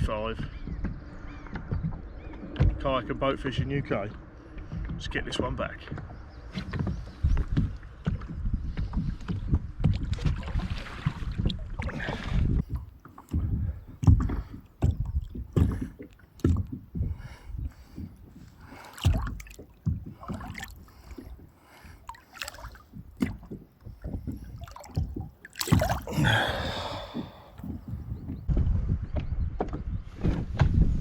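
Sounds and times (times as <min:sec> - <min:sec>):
water sloshing against boat: 0:00.0 - 0:31.0
wind buffeting microphone: 0:00.0 - 0:31.0.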